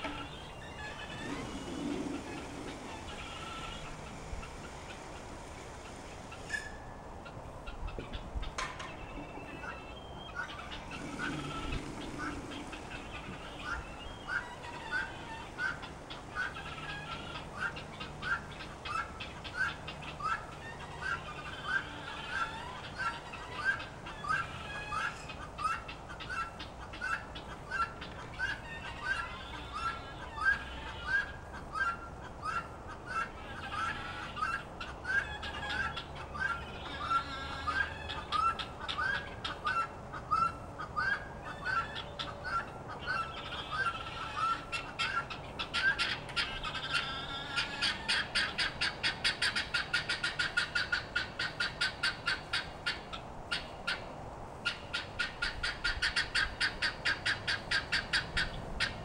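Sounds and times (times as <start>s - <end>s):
guinea fowl calling: 0.0s - 59.0s.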